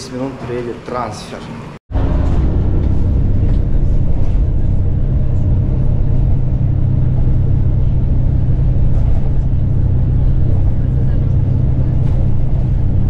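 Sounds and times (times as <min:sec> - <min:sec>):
vehicle engine and road rumble: 0:00.2 - 0:13.0.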